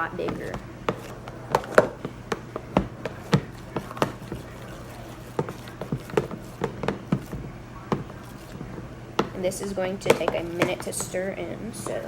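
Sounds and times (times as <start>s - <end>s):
utensil scraping a bowl: 0.0s - 11.2s
faint steady hum: 0.0s - 12.0s.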